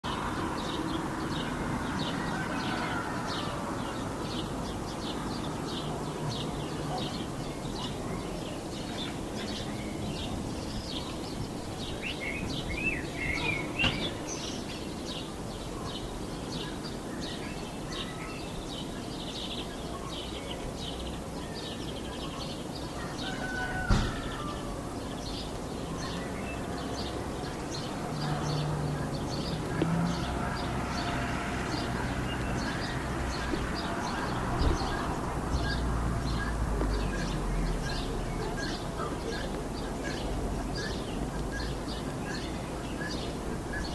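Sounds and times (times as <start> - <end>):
low rumble of road traffic: 0.0 - 43.9
small birds chirping: 0.0 - 43.9.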